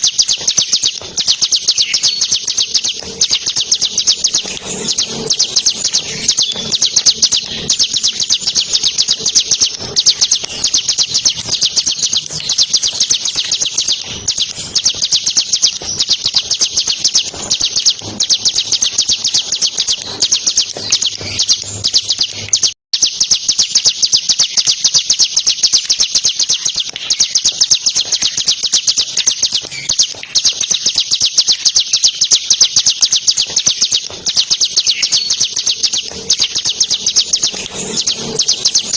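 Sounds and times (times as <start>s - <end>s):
bird singing a fast rattle: 0.0s - 38.9s.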